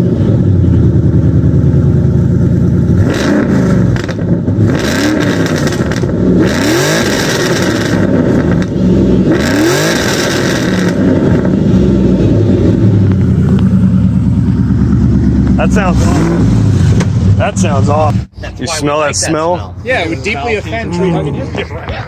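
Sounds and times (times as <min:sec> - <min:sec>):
car engine idling: 0:00.0 - 0:06.4, 0:07.0 - 0:22.0
car engine revving: 0:00.0 - 0:18.4.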